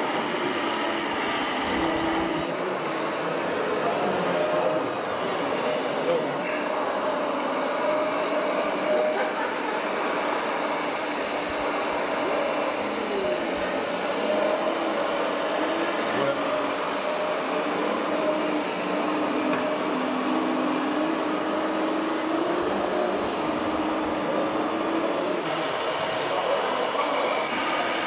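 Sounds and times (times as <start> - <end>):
model truck motors whining: 0.0 - 28.0.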